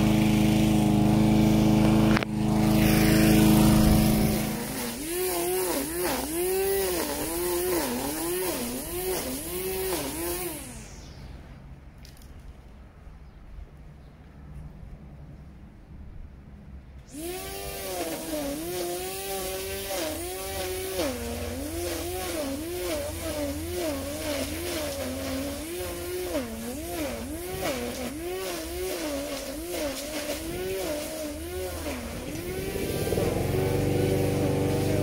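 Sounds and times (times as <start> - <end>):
line trimmer engine revving: 0.0 - 11.3, 17.1 - 35.0
lawn mower engine hum: 0.0 - 11.8, 17.0 - 35.0.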